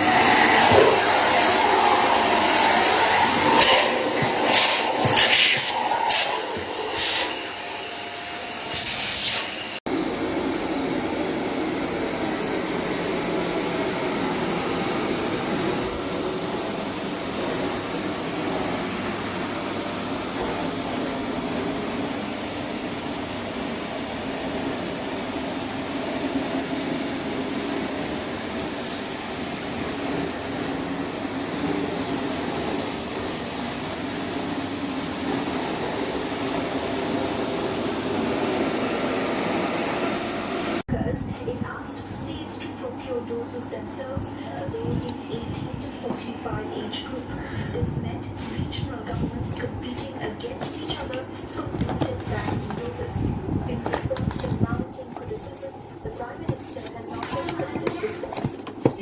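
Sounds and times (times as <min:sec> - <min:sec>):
vacuum cleaner running: 0:00.0 - 0:41.0, 0:42.6 - 0:59.0.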